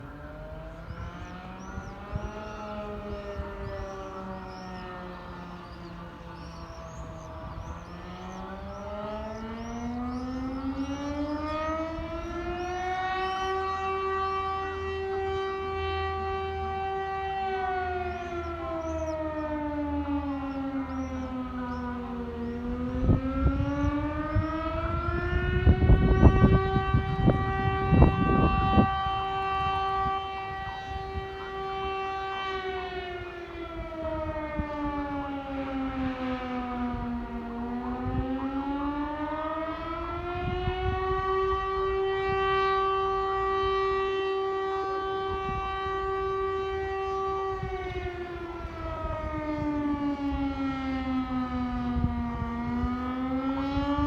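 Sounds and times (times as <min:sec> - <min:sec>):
air-raid siren wailing: 0:00.0 - 0:54.0.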